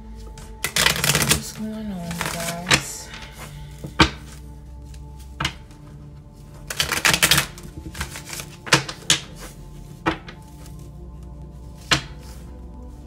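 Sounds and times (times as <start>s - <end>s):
quiet background music: 0.0s - 13.0s
cards being shuffled: 0.2s - 13.0s.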